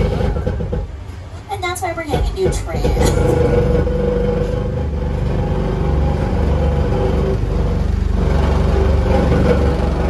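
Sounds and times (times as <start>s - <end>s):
tram engine and road rumble: 0.0s - 10.0s.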